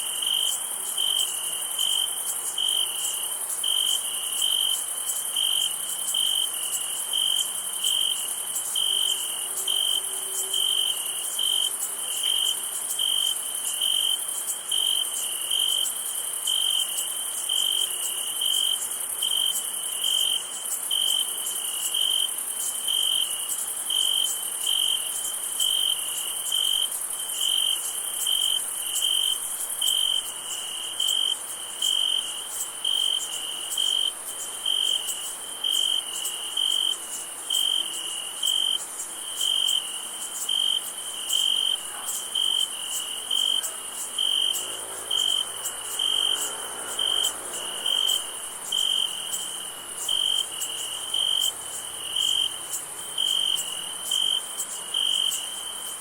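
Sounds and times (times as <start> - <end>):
cricket chirping: 0.0 - 56.0
high-pitched insect trill: 0.0 - 56.0.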